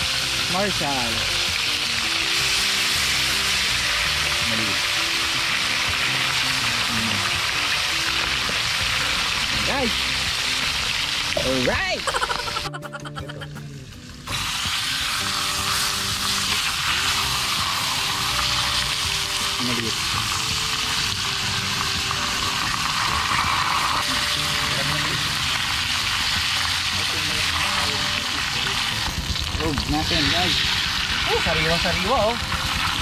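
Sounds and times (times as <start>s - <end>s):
fish sizzling in hot oil: 0.0s - 12.7s, 14.0s - 33.0s.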